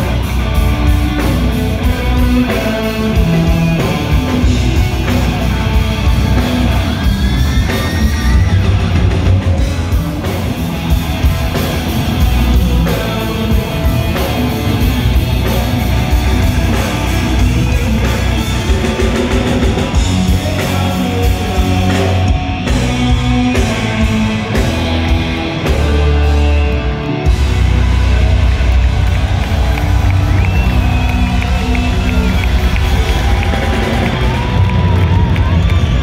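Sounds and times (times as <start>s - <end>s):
live blues-rock band playing loud: 0.0s - 36.0s.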